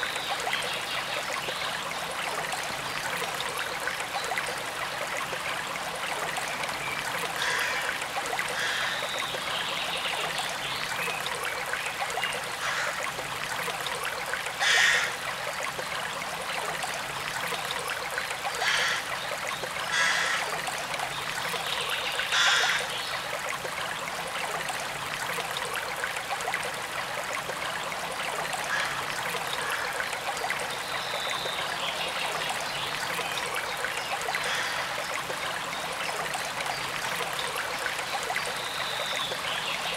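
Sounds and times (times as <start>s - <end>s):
stream running over stones: 0.0s - 39.9s
water splashes and gurgles: 0.0s - 39.9s.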